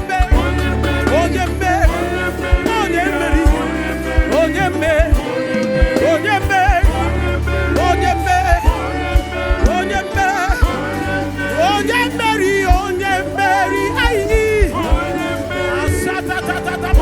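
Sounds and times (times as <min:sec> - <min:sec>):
band with bass and drums: 0:00.0 - 0:17.0
person singing with vibrato: 0:00.0 - 0:17.0.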